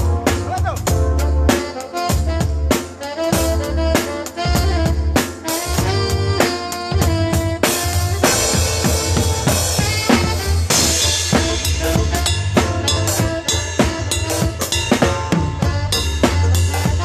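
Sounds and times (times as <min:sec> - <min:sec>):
drum kit beat: 0:00.0 - 0:17.0
live band playing: 0:00.0 - 0:17.0.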